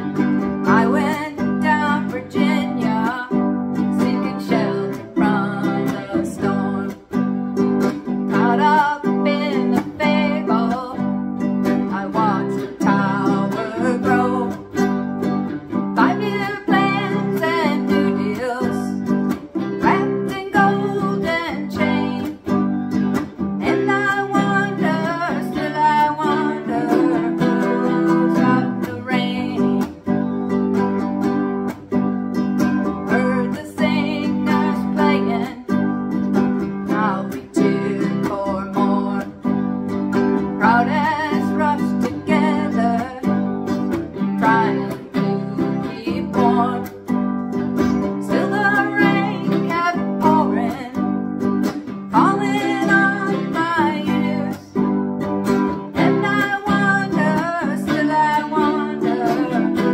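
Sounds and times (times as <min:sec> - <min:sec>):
electric guitar: 0:00.0 - 0:59.9
ukulele strumming: 0:00.0 - 0:59.9
woman singing: 0:00.0 - 0:59.9.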